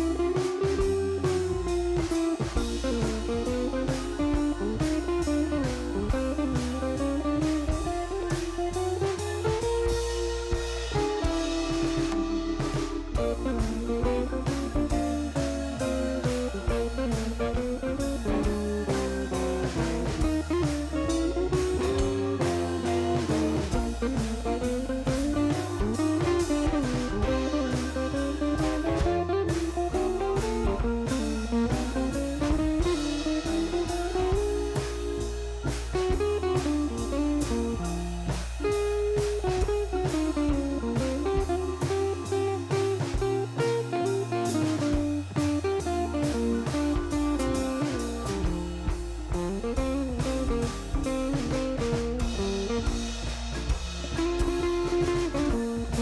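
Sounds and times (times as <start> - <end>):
bluesy guitar melody: 0.0 - 56.0
drum beat and bass: 0.0 - 56.0.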